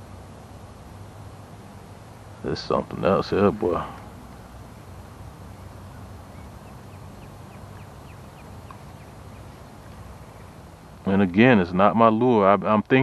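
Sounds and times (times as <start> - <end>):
distant bird chirping: 0.0 - 13.0
low outdoor rumble: 0.0 - 13.0.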